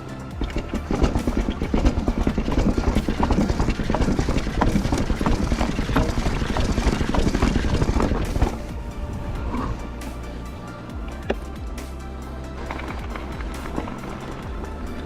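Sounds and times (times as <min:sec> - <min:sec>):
bike clattering and rattling: 0:00.0 - 0:10.1, 0:10.8 - 0:15.0
tyres rumbling: 0:00.0 - 0:15.0
wind: 0:00.0 - 0:15.0.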